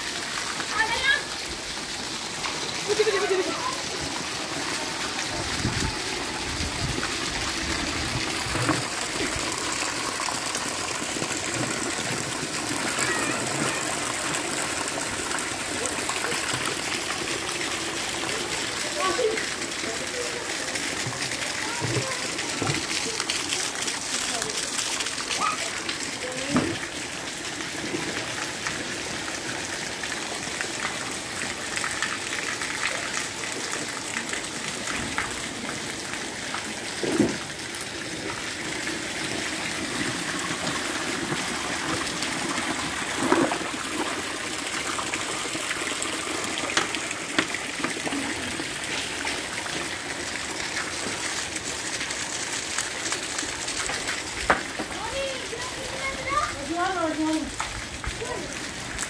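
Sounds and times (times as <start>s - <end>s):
rainwater pouring from spouts: 0.0s - 59.0s
water flowing on concrete: 0.0s - 59.0s.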